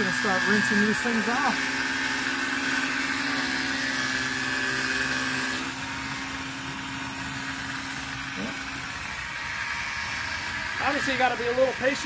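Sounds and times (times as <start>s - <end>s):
electric pump humming: 0.0s - 12.0s.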